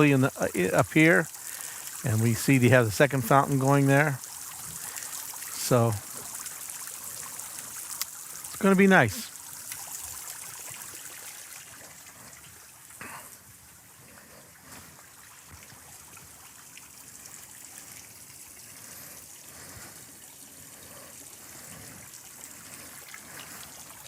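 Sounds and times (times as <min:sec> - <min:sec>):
fountain trickling and splashing: 0:00.0 - 0:24.0.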